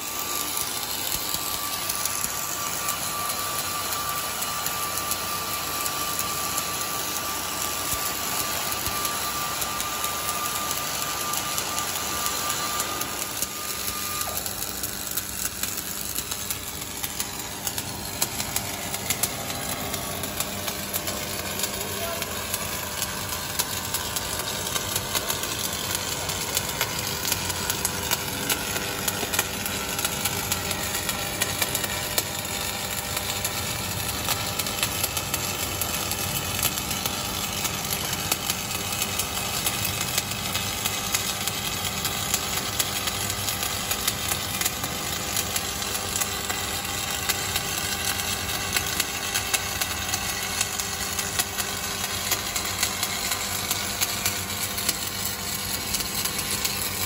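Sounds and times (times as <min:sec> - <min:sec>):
welding arc crackling: 0:00.0 - 0:57.0
welding arc pops: 0:00.0 - 0:57.0.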